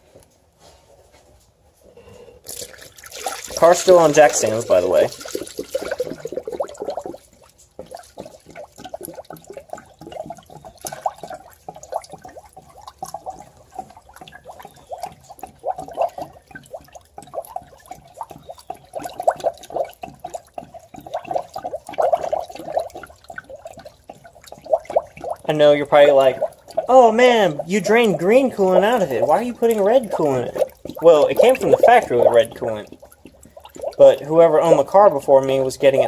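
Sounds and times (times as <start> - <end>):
coolant gurgling through funnel: 2.4 - 36.0.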